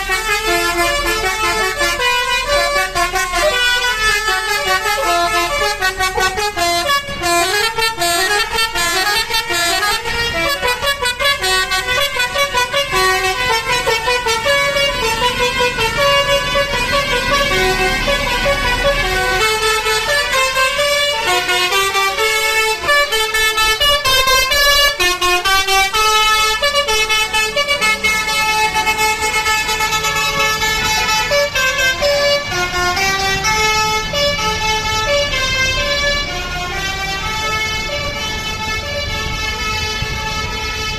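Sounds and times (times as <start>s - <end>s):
bus musical air horns melody: 0.0s - 40.9s.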